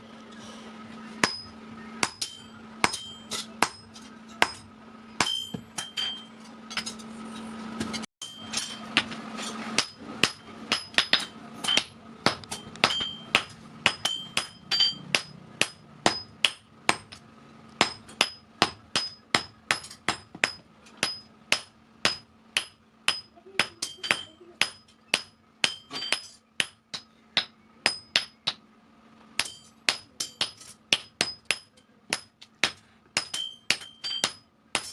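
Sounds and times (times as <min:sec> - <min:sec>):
steady low hum: 0:00.0 - 0:34.9
hammer striking steel on anvil: 0:01.2 - 0:17.2, 0:17.8 - 0:28.6, 0:29.4 - 0:34.9.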